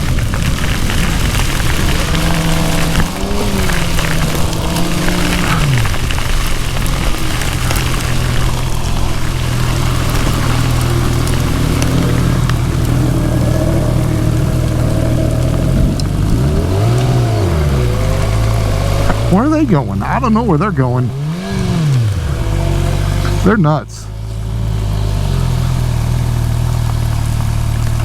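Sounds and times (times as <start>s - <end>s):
heavy rain: 0.0s - 28.0s
motorcycle engine running: 0.0s - 28.0s.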